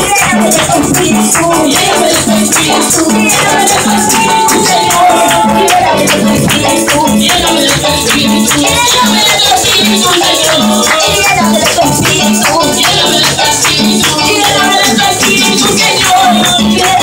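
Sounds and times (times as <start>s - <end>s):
electric keyboard: 0.0s - 17.0s
hand clapping: 0.0s - 17.0s
rattling beat: 0.0s - 17.0s
women singing: 0.0s - 17.0s.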